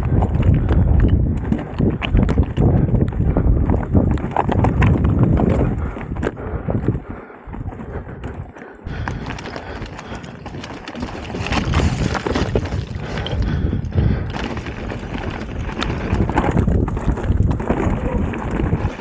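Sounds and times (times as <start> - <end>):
bike clattering over stones: 0.0 - 6.4, 7.6 - 19.0
wind rumbling on microphone: 0.0 - 19.0.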